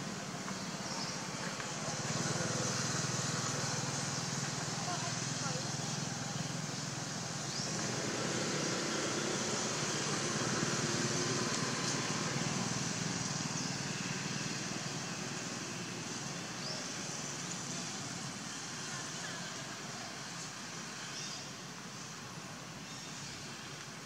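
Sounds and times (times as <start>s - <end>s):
vehicle engine humming: 0.0s - 21.9s
outdoor background noise: 0.0s - 24.0s.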